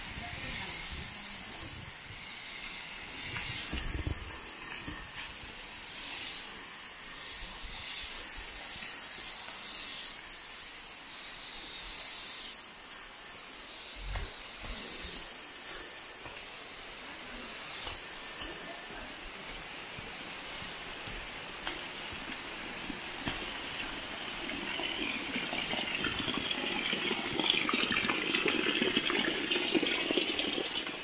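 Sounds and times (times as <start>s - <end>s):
shrill insect chorus: 0.0s - 31.0s.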